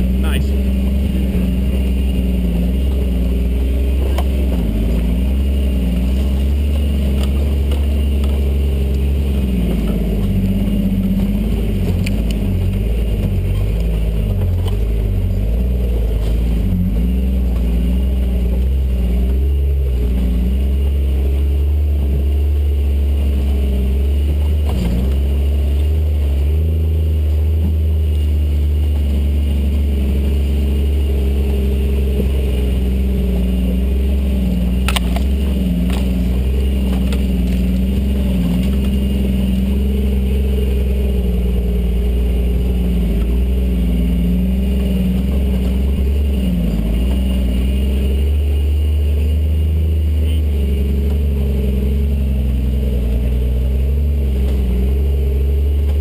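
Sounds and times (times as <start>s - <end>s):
car engine climbing: 0.0s - 56.0s.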